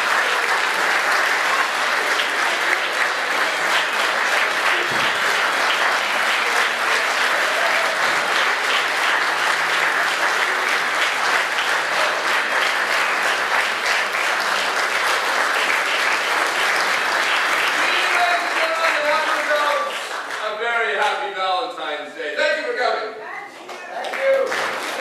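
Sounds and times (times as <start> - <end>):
audience applauding: 0.0 - 21.2, 23.6 - 25.0.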